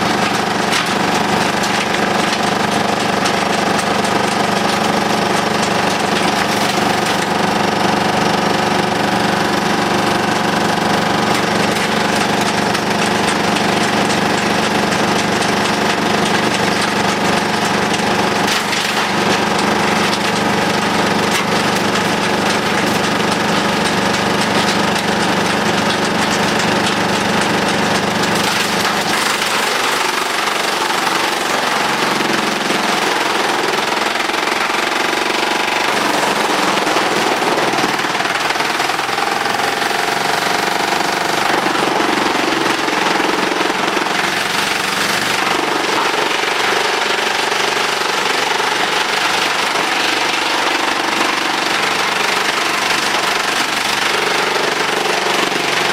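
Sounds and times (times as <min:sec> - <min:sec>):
drum chipper clattering: 0:00.0 - 0:55.9.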